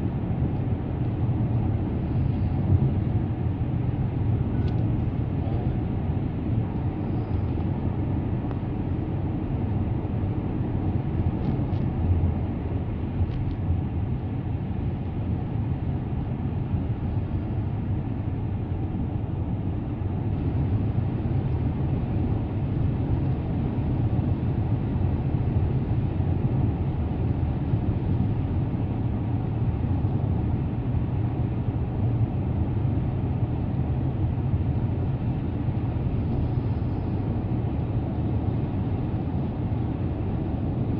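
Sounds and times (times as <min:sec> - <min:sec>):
car driving on road: 0:00.0 - 0:40.9.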